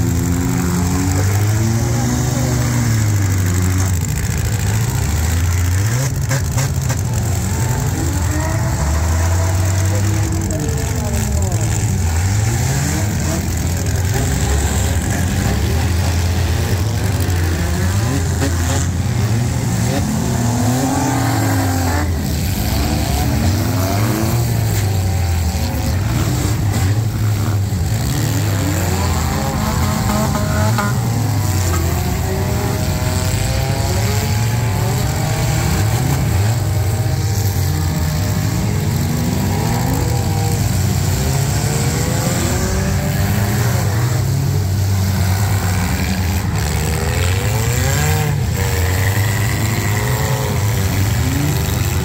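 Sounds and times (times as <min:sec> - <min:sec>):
many car engines revving: 0:00.0 - 0:52.0.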